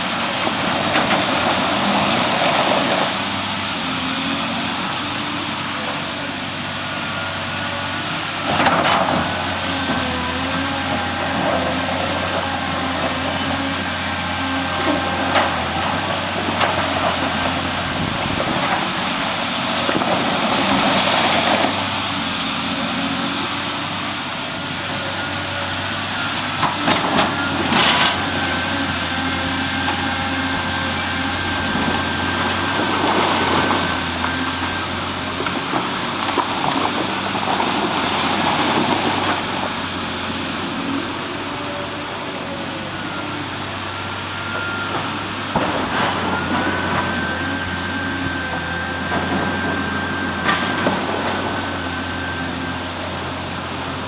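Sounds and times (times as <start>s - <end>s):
large engine running: 0.0s - 54.0s
noisy engine surges: 0.0s - 54.0s.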